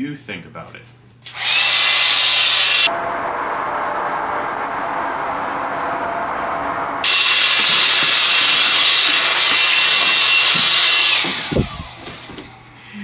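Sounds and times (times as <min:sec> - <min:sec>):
blower fan motor whining: 0:01.3 - 0:13.0.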